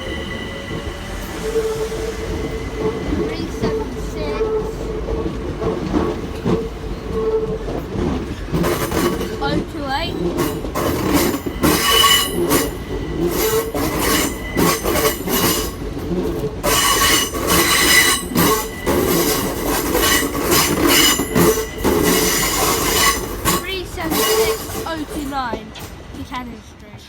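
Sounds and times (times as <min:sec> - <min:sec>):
train wheels squealing: 0:00.0 - 0:06.1, 0:08.7 - 0:26.6
train clattering over track: 0:00.0 - 0:27.0.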